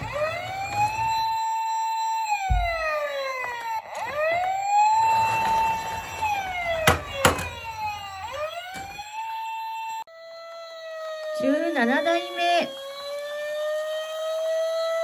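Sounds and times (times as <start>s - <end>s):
toy electronic siren wailing: 0.0s - 15.0s.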